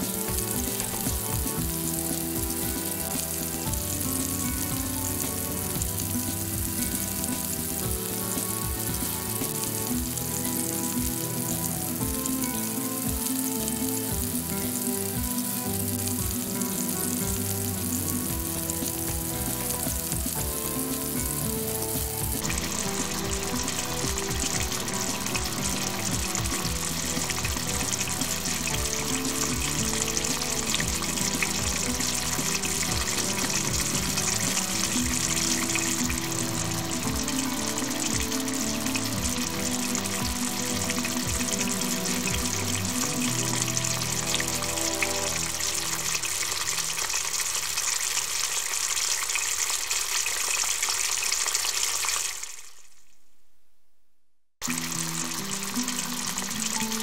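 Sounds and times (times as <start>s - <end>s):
background music: 0.0s - 50.2s, 54.6s - 57.0s
vegetables sizzling in a pan: 0.0s - 52.7s, 54.6s - 57.0s.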